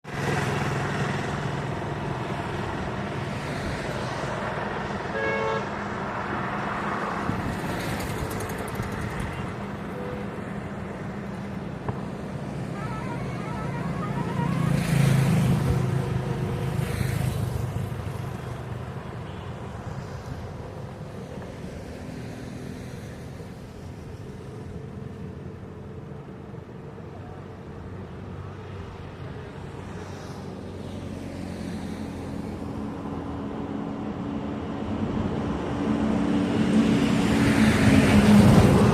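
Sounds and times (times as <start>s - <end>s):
passing vehicles: 0.0s - 38.9s.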